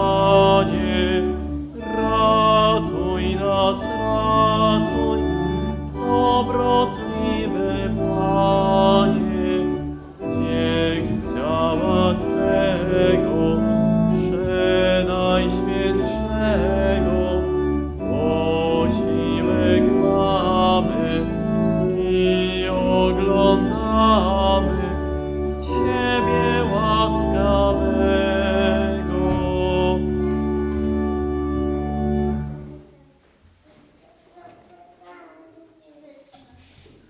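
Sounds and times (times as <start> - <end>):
organ notes: 0.0 - 33.0
person singing a hymn: 0.0 - 33.0.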